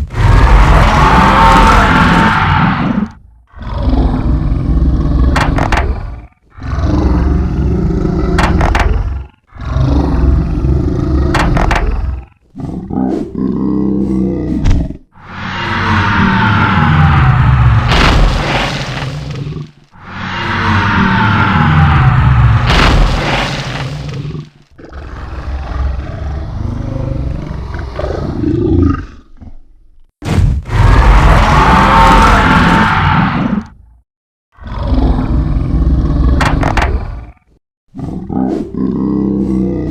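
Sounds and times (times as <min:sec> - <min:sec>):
low creature roar: 0:00.0 - 0:29.4, 0:30.7 - 0:33.8, 0:34.6 - 0:39.9.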